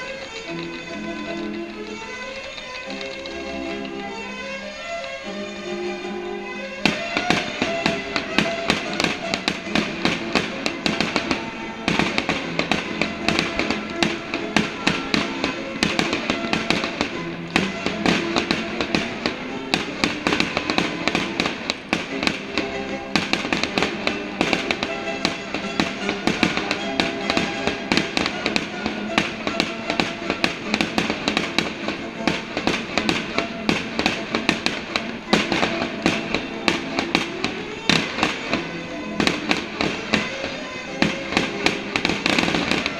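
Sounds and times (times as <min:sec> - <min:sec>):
fireworks bangs and crackles: 0:00.0 - 0:42.9
music: 0:00.0 - 0:42.9.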